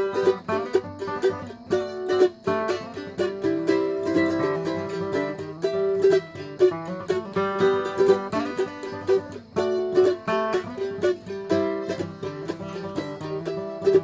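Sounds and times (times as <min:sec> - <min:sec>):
plucked string instrumental music: 0:00.0 - 0:14.0.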